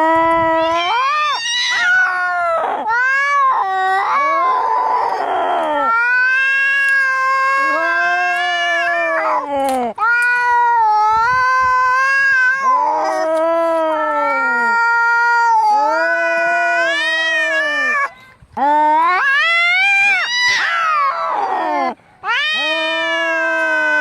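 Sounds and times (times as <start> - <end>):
cats yowling in a fight: 0.0 - 18.1, 18.7 - 24.0.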